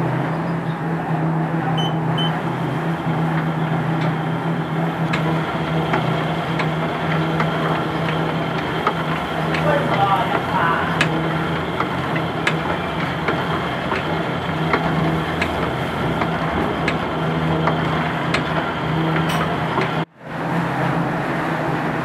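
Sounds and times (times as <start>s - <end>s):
tea-rolling machine motor humming: 0.0s - 22.0s.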